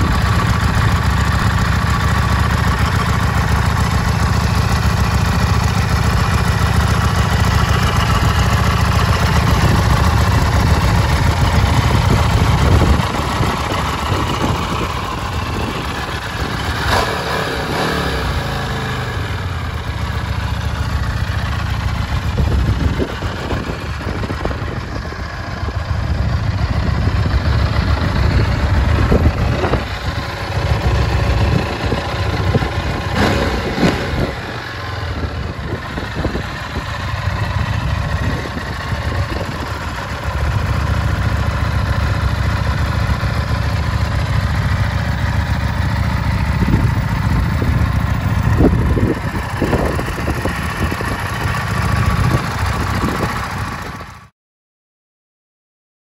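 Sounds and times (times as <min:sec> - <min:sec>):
motorcycle engine idling: 0:00.0 - 0:54.3.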